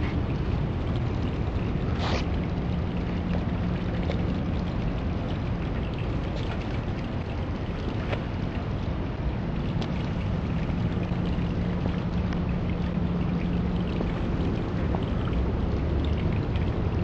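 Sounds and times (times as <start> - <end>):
water rushing through pipes: 0.0 - 17.0.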